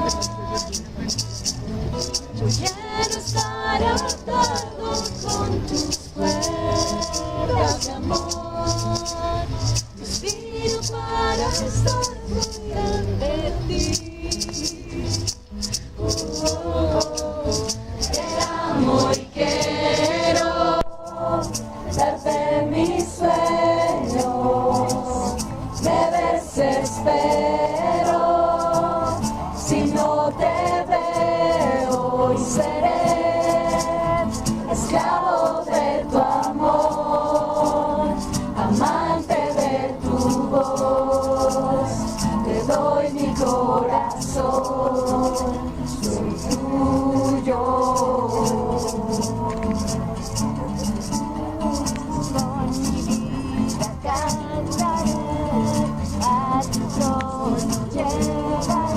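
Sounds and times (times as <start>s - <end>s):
several voices singing together: 0.0s - 1.1s, 2.0s - 50.8s, 51.7s - 58.9s
light rhythmic percussion: 0.0s - 58.9s.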